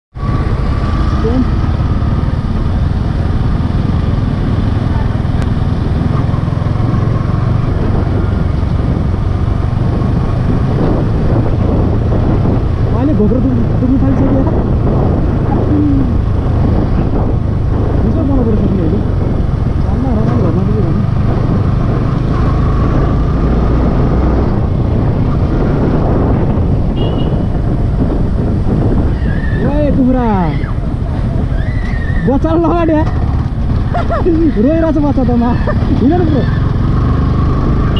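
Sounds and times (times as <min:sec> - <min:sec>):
motorcycle engine: 0:00.1 - 0:37.9
wind rumble on microphone: 0:00.2 - 0:37.9.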